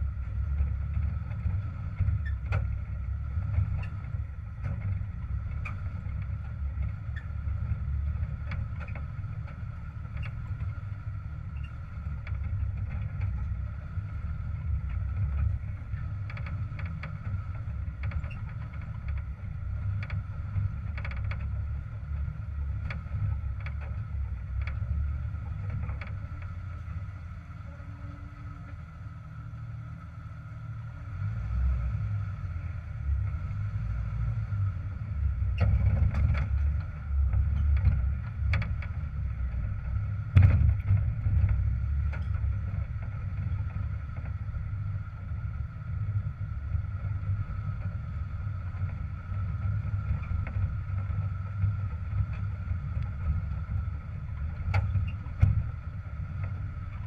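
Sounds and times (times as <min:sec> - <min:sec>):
engine rumbling at low speed: 0:00.0 - 0:57.0.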